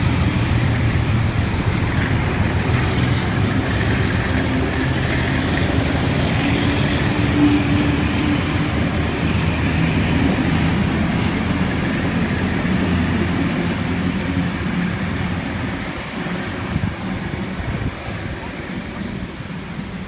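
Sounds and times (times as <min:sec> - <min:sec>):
train carriages rumbling on rails: 0:00.0 - 0:20.0.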